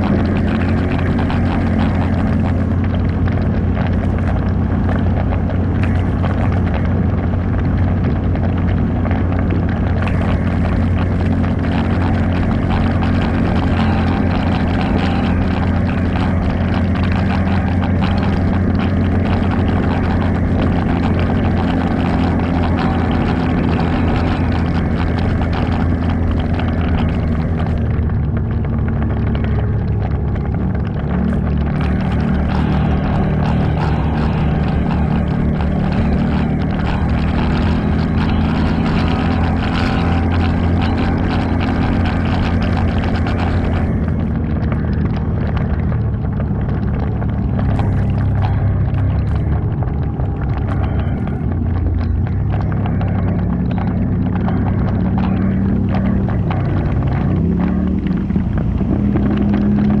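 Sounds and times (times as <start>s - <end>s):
atv engine running: 0.0s - 60.0s.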